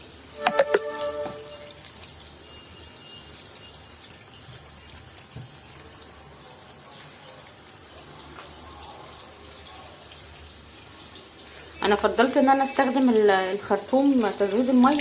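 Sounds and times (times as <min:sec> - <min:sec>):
water running from a hose: 0:00.0 - 0:15.0.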